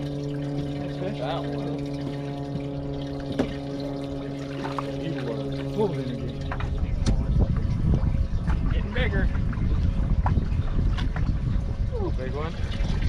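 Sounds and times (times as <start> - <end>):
water splashing: 0.0 - 13.0
wind rumbling on microphone: 0.0 - 13.0.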